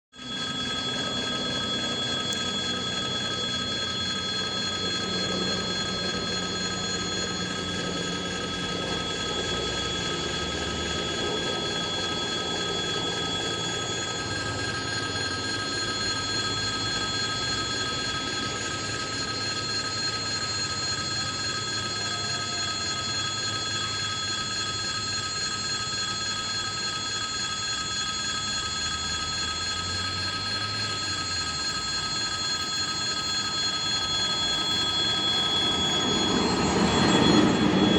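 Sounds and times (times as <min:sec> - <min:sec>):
high-pitched tones: 0:00.2 - 0:37.9.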